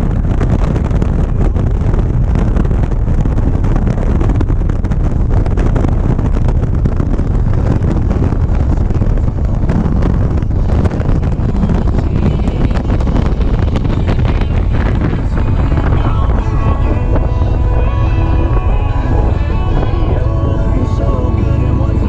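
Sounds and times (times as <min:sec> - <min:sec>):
motorcycle running: 0:00.0 - 0:22.0
wind buffeting microphone: 0:00.0 - 0:22.0.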